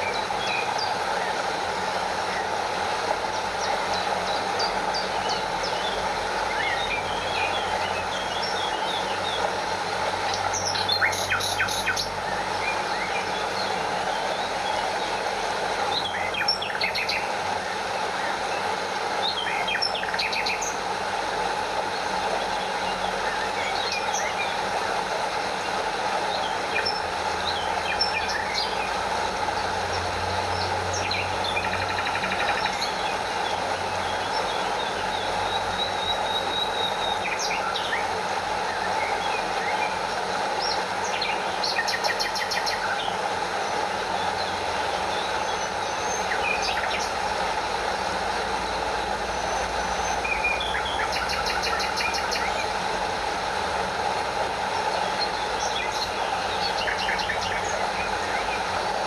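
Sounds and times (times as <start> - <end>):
stream over small waterfall: 0.0 - 59.0
birds chirping: 3.2 - 17.4, 21.9 - 53.6, 54.6 - 59.0.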